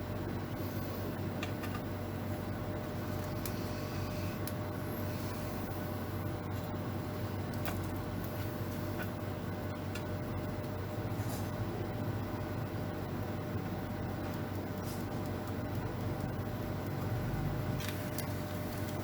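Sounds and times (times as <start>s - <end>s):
low machine hum and hiss: 0.0s - 19.0s.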